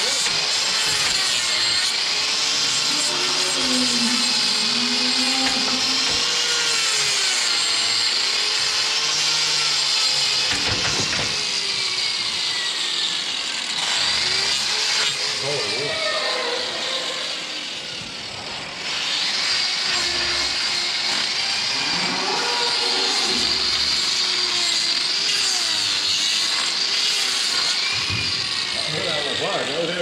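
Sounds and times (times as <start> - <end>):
power grinder on hoof: 0.0 - 30.0.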